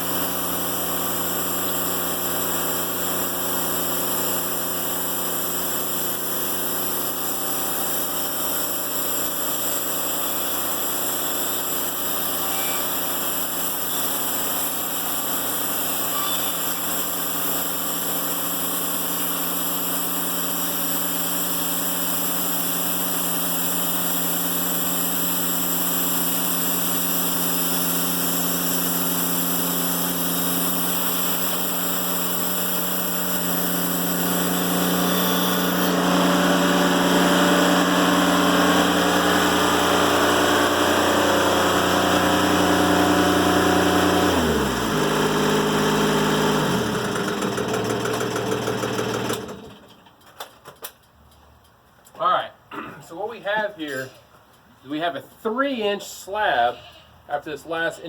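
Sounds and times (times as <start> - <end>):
band sawmill cutting log: 0.0 - 49.9.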